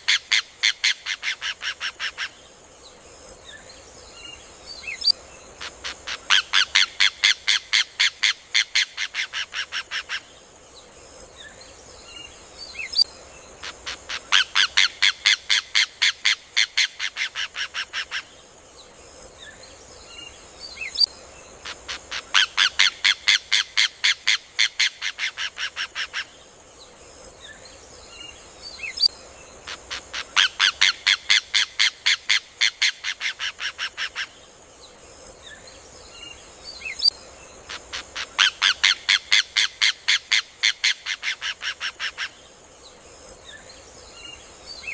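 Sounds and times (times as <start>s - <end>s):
steady high-pitched hiss: 0.0s - 44.9s.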